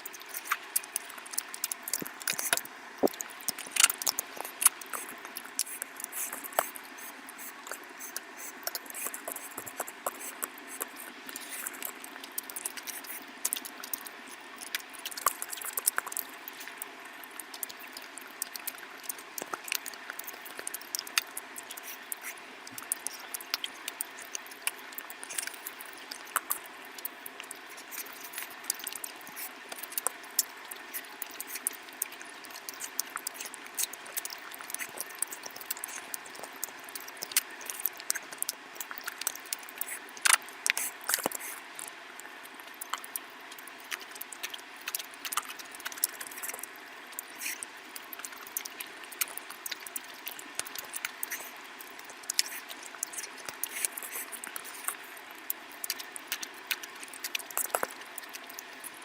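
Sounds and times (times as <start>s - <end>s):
wet chewing smacks: 0.0s - 59.0s.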